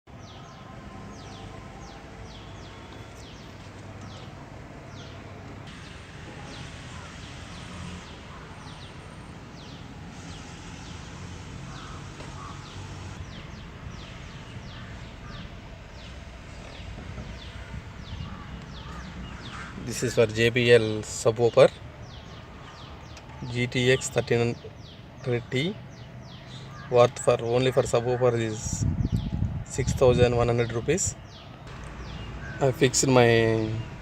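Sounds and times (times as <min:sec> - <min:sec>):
birds chirping: 0:00.1 - 0:34.0.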